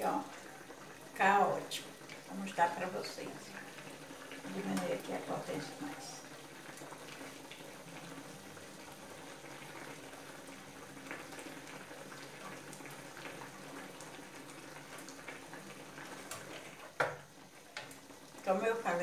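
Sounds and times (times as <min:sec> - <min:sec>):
sauce bubbling in a pan: 0:00.0 - 0:19.0.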